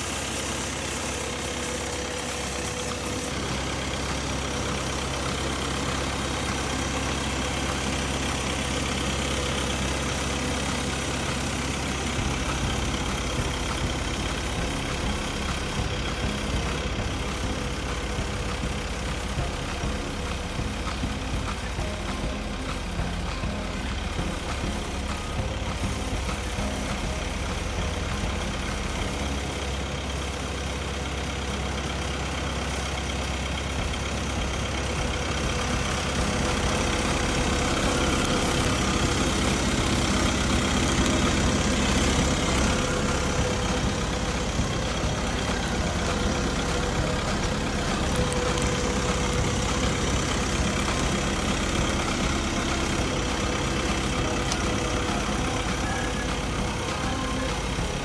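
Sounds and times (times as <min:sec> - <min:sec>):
stump grinder engine running: 0:00.0 - 0:58.0.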